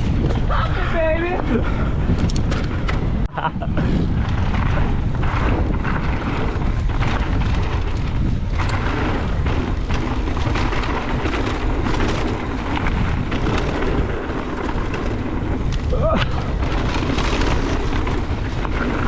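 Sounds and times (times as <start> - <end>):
bike knocking and rattling: 0.0 - 19.0
bike tyre noise on dirt: 0.0 - 19.0
wind buffeting microphone: 0.0 - 19.0.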